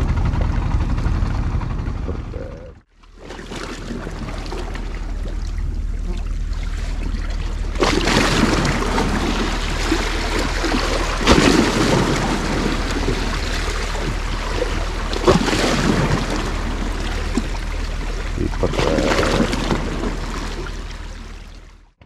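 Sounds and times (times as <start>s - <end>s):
steady low rumble: 0.0s - 22.0s
waves splashing against rocks: 3.2s - 21.4s.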